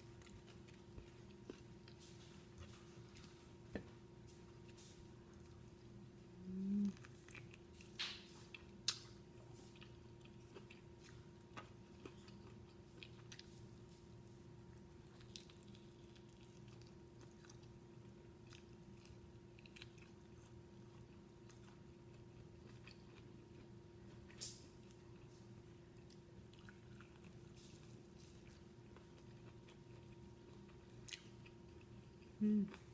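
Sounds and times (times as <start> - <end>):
chewing food with crunches: 0.0 - 32.9
faint electrical hum: 0.0 - 32.9.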